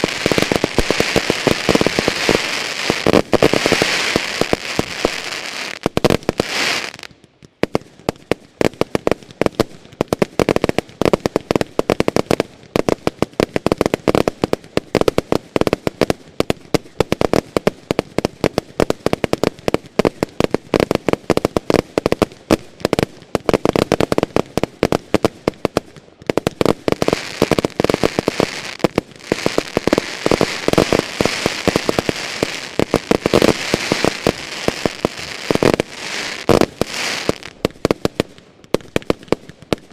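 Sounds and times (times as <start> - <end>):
firework crackling bursts: 0.0 - 39.9.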